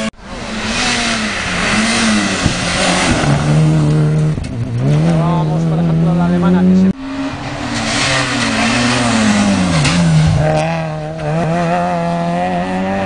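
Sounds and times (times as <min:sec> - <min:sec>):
rally car engine revving: 0:00.0 - 0:13.0
road and exhaust noise: 0:00.0 - 0:13.0.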